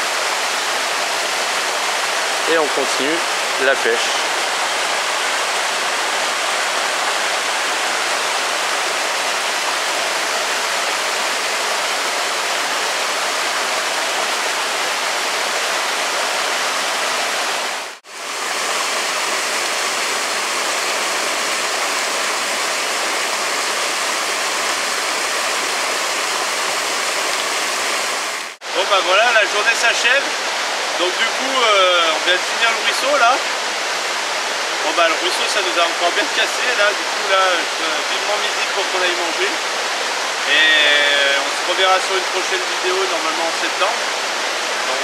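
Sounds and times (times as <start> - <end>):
stream rushing over rocks: 0.0 - 45.0.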